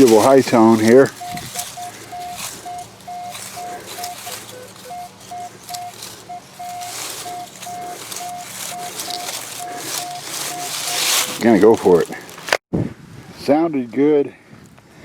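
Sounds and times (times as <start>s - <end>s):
metal detector beeping: 0.0s - 12.5s
scratchy rustling: 0.0s - 12.6s.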